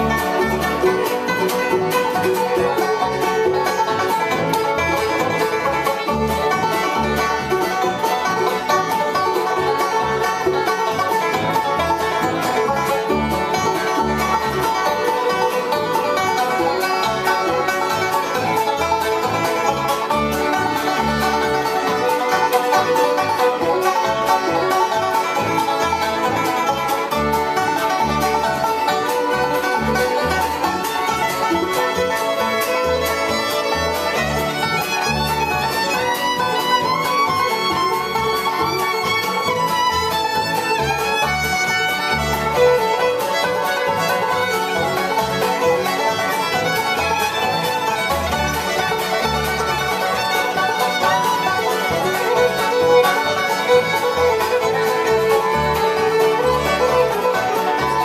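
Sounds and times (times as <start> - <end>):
banjo: 0.0 - 58.0
fiddle: 0.0 - 58.0
guitar: 0.0 - 58.0
upright bass: 0.0 - 58.0.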